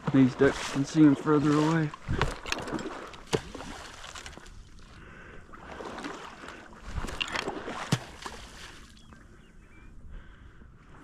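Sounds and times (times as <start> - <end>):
water sloshing and splashing: 0.0 - 9.3.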